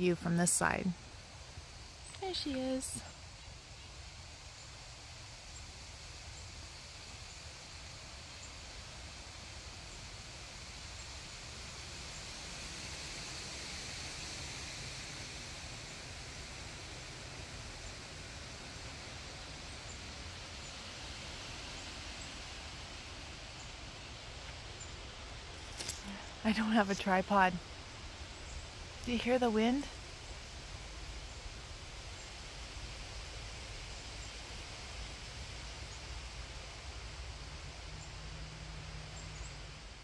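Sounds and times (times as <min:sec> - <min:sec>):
wind rustling leaves: 0:00.0 - 0:40.0.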